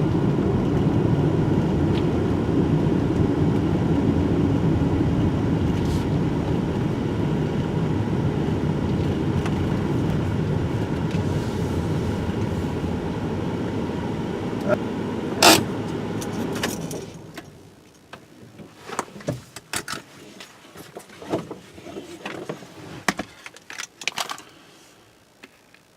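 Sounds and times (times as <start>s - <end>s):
road and tyre rumble: 0.0s - 23.9s.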